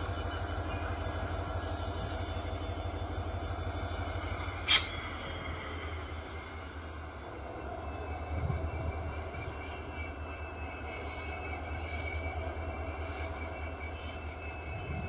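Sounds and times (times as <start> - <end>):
diesel locomotive engine rumble: 0.0 - 15.0
high squeal sliding down: 1.6 - 15.0.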